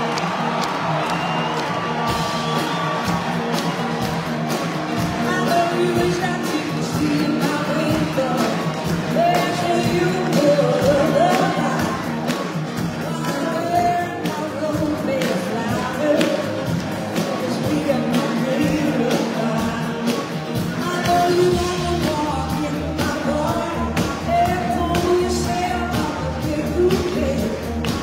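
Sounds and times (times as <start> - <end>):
drums: 0.0 - 28.0
electric guitars: 0.0 - 28.0
person singing: 5.0 - 28.0.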